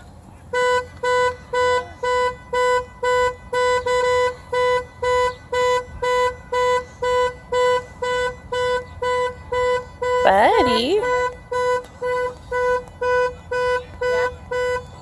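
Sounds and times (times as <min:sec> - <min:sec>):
car alarm horn honks: 0:00.4 - 0:15.0.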